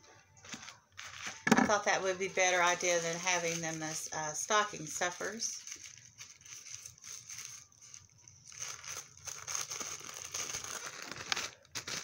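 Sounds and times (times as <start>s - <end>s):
packaging crinkling: 0.3s - 12.0s.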